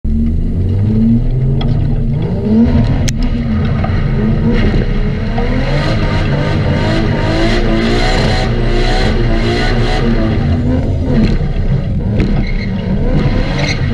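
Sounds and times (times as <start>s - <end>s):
car engine revving: 0.1s - 13.9s.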